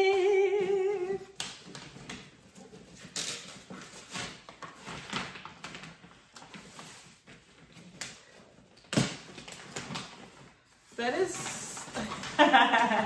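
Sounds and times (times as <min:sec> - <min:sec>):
gift box rustling and scraping: 0:01.0 - 0:12.9.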